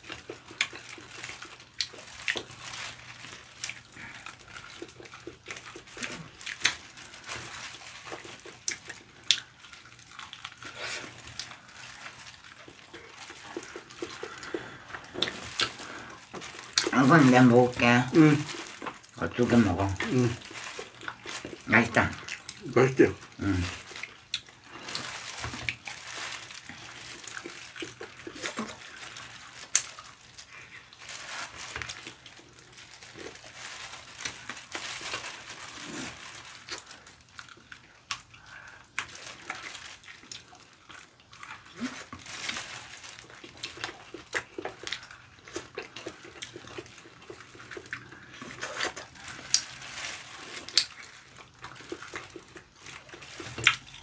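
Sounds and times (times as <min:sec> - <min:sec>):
crisp bites: 0:00.0 - 0:54.0
people chewing and smacking: 0:00.0 - 0:54.0.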